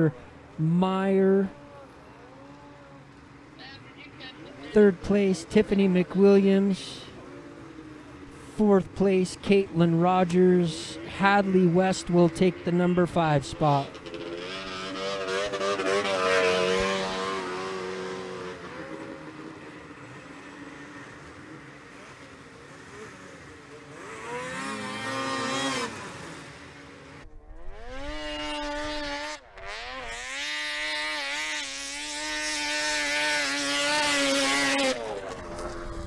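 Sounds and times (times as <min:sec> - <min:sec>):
snowmobile engines revving: 0:00.0 - 0:36.0.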